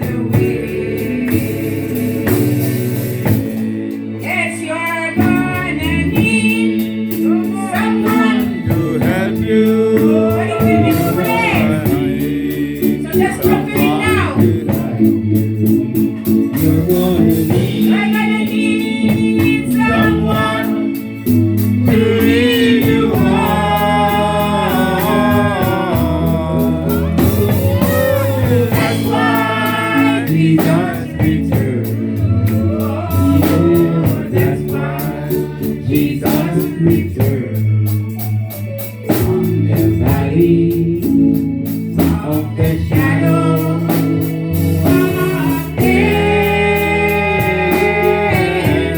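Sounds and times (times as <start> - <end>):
bass: 0.0 - 48.9
gospel singing over a band: 0.0 - 48.9
steady drum beat: 0.0 - 48.9.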